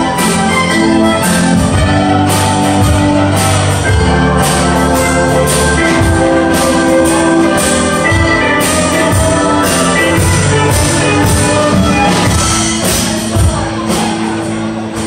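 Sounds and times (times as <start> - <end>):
dance band playing: 0.0 - 15.0.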